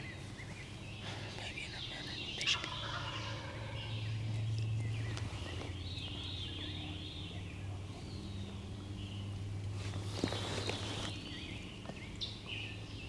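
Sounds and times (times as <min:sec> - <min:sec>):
songbirds chirping and warbling: 0:00.0 - 0:13.0
steady low hum: 0:00.0 - 0:13.0.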